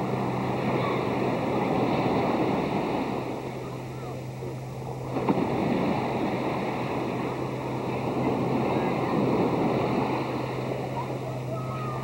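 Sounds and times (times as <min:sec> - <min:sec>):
surf washing in shallows: 0:00.0 - 0:12.0.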